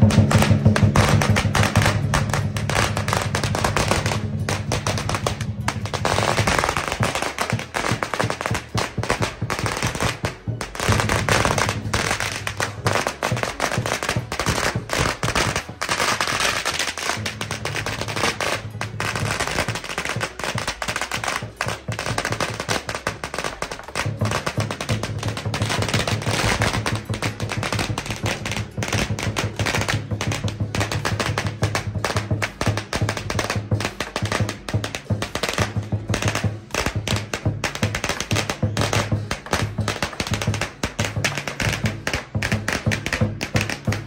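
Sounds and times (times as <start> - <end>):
cymbals beating: 0.0 - 44.0
drum beating: 0.0 - 44.0
firecrackers popping: 0.0 - 44.0.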